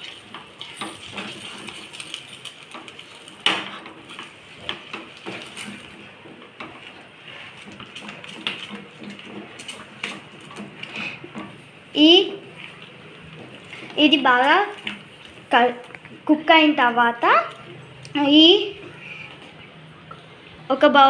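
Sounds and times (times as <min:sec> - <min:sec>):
wooden spatula stirring in pan: 0:00.0 - 0:20.4.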